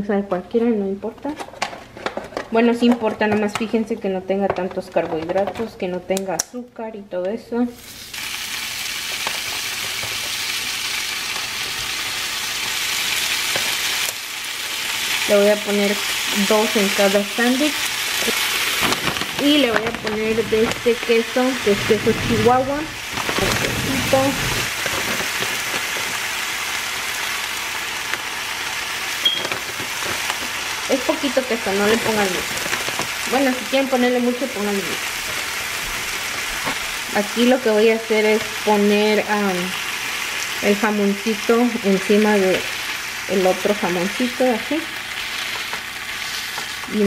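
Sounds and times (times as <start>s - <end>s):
ham sizzling on griddle: 7.8s - 47.0s.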